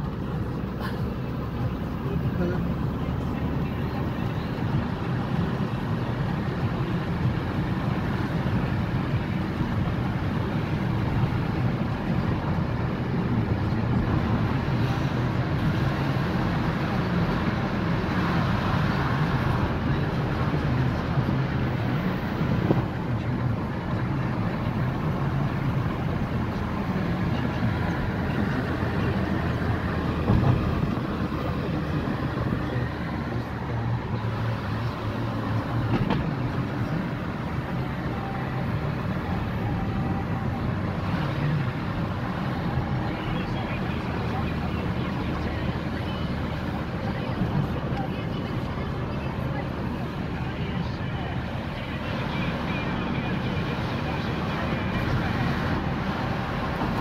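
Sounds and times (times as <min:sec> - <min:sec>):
car engine hum: 0:00.0 - 0:57.0.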